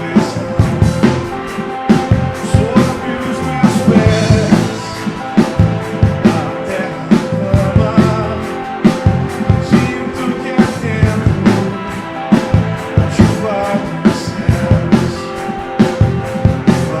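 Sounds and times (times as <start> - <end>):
drums beating: 0.0 - 17.0
rock band playing: 0.0 - 17.0.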